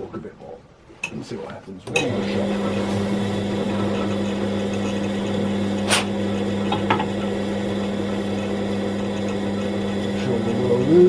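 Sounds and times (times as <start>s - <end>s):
electric motor humming: 1.9s - 11.0s.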